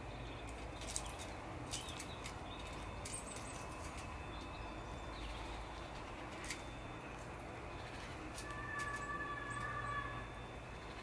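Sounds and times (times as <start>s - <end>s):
faint bird chirps: 1.7s - 11.0s.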